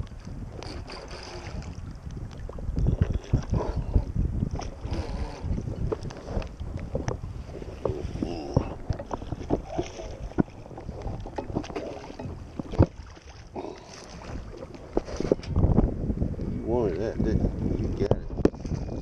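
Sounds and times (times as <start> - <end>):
water lapping and splashing: 0.0 - 16.0, 17.0 - 19.0
wind buffeting the microphone: 0.0 - 19.0.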